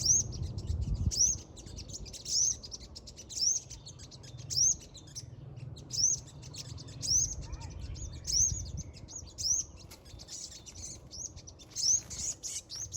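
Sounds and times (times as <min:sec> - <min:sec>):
small bird chirping: 0:00.0 - 0:12.9.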